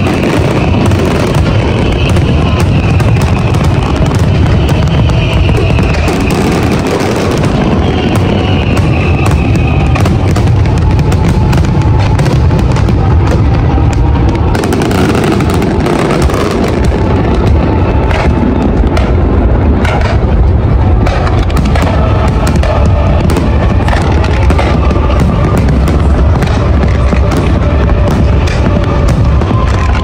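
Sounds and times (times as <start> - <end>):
firework bangs and crackles: 0.0 - 30.0
low booming: 0.0 - 30.0.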